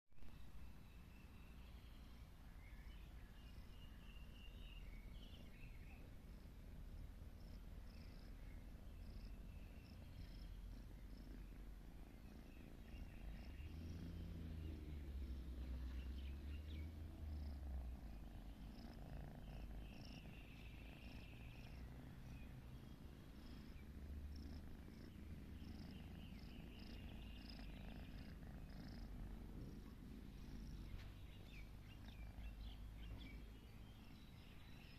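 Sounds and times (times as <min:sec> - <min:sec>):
faint high chirps: 0:00.2 - 0:34.9
kitten purring: 0:01.0 - 0:34.9.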